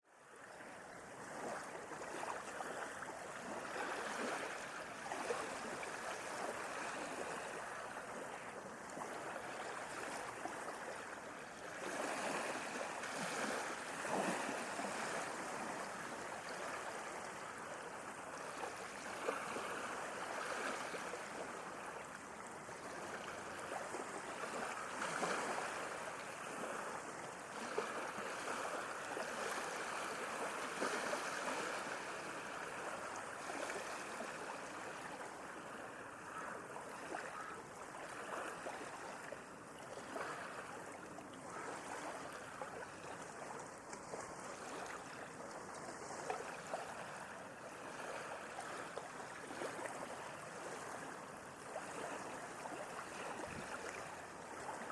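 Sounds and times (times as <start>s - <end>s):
sea waves washing on shore: 0.3s - 54.9s.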